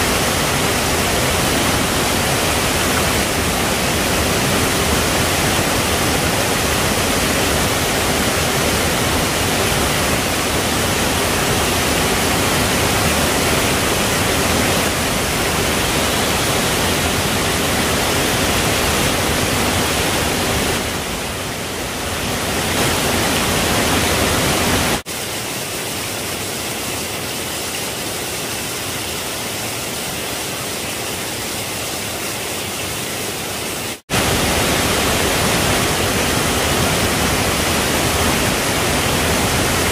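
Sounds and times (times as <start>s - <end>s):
forest stream rushing: 0.0s - 39.9s.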